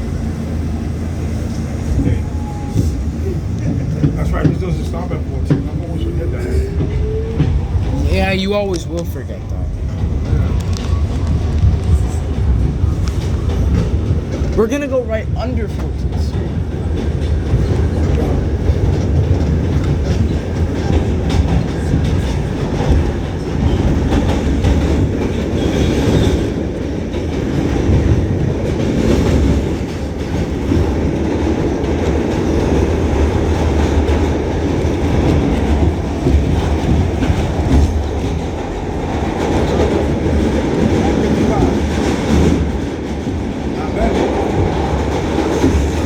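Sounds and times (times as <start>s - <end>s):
subway train wheels rumbling: 0.0s - 46.0s.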